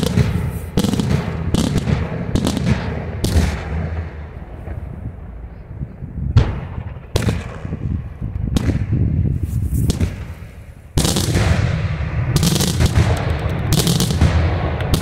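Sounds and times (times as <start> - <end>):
fireworks bursting with loud bangs: 0.0 - 15.0
rapid fireworks crackle: 0.0 - 15.0.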